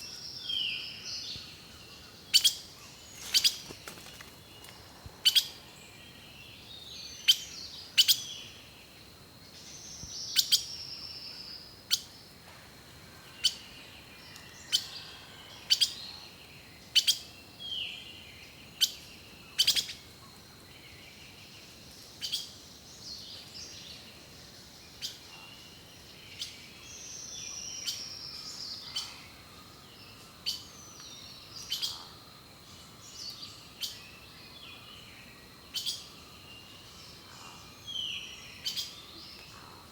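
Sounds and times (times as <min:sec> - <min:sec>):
songbirds calling and singing: 0:00.0 - 0:39.9.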